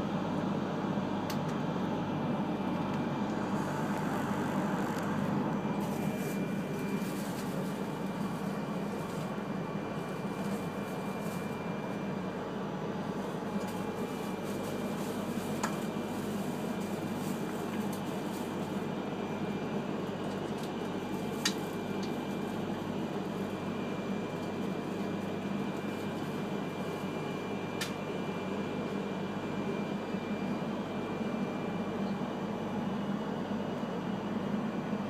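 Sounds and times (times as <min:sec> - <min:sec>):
ventilation hum in train car: 0:00.0 - 0:35.0.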